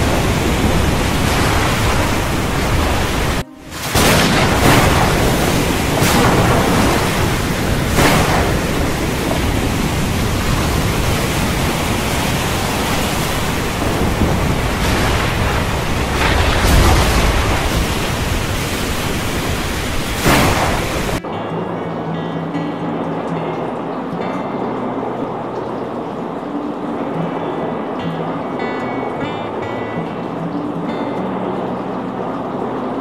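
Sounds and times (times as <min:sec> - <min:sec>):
wind and water rushing: 0:00.0 - 0:33.0.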